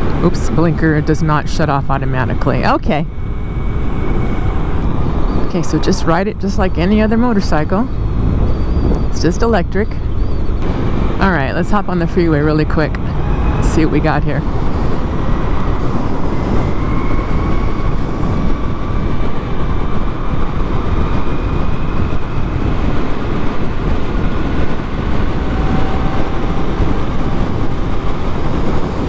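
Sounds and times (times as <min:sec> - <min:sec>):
wind noise on microphone: 0:00.0 - 0:29.0
electric motor whine: 0:02.0 - 0:11.6, 0:12.2 - 0:29.0.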